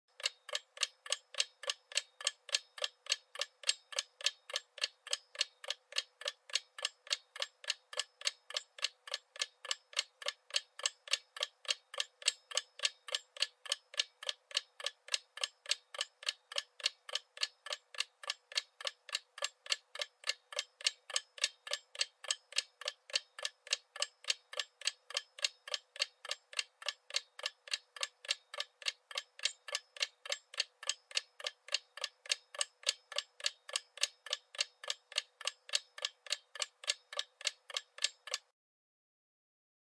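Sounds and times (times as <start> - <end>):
clock ticking: 0.1 - 38.5.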